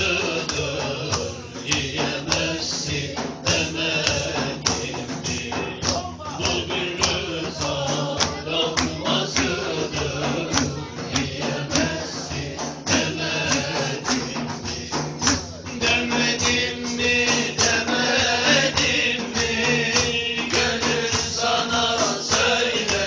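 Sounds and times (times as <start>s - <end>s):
hand percussion beat: 0.0s - 23.0s.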